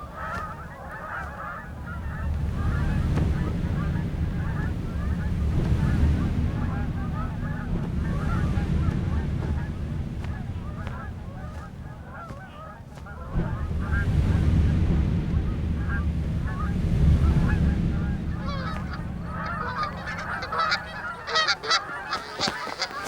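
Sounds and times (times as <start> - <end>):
geese honking: 0.0 - 23.0
low rumble: 0.0 - 23.0.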